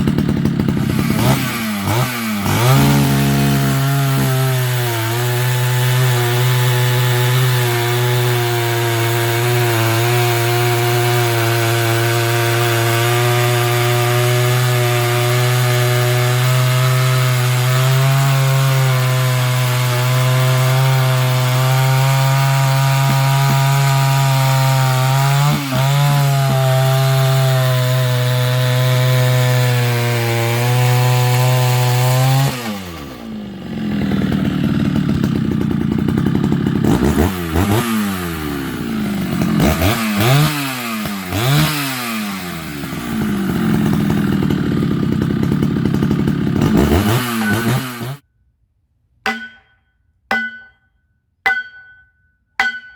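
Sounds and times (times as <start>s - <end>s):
chainsaw cutting wood: 0.0s - 48.2s.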